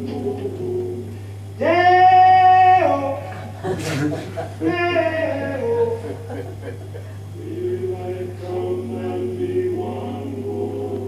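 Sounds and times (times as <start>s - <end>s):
low electrical hum: 0.0s - 11.0s
voices singing: 0.0s - 11.0s.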